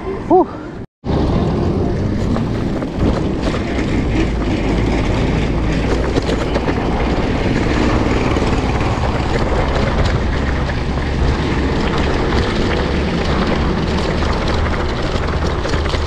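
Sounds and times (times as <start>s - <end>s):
road noise: 0.0s - 16.0s
wind rumble on microphone: 1.0s - 16.0s
small rattles: 2.3s - 16.0s.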